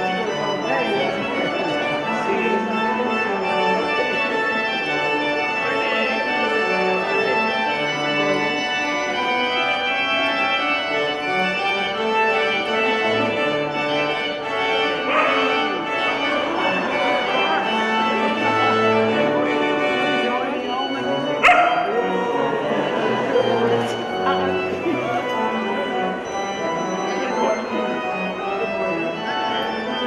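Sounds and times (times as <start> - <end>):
organ music: 0.0 - 30.0.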